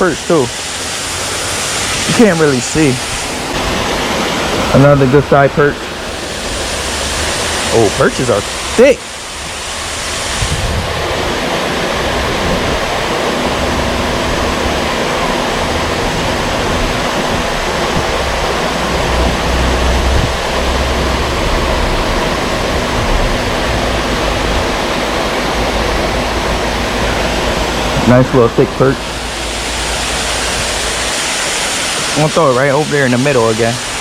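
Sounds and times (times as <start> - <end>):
creek waterfall rushing: 0.0 - 34.0.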